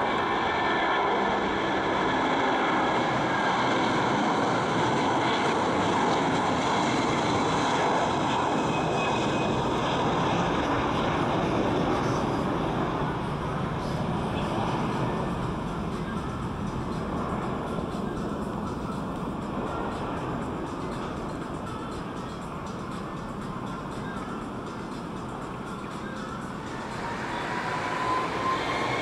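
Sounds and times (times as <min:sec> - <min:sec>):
jet airliner taking off: 0:00.0 - 0:29.0.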